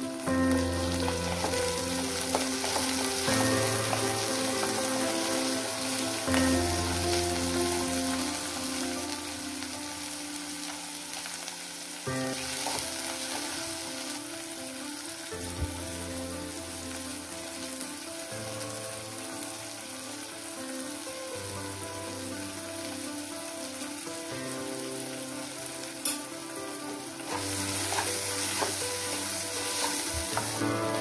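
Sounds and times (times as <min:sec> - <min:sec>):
soft background music: 0:00.0 - 0:31.0
vegetables sizzling in hot oil: 0:00.0 - 0:31.0.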